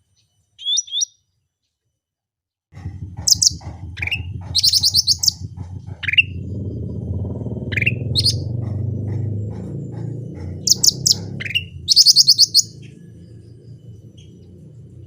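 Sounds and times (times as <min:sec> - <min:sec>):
songbird calling: 0:00.2 - 0:01.2, 0:03.2 - 0:15.0.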